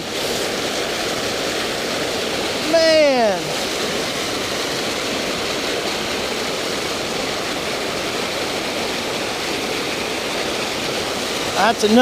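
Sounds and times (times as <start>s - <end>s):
water pouring over small waterfall: 0.0s - 12.0s.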